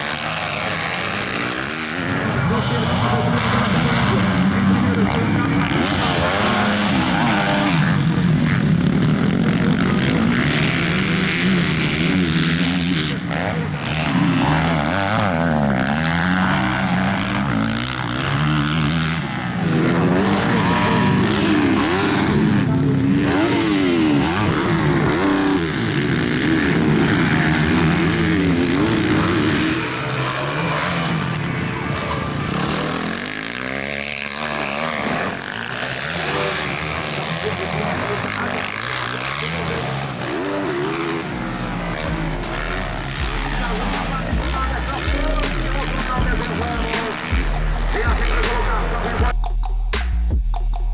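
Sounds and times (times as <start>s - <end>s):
motocross bikes revving: 0.0s - 50.0s.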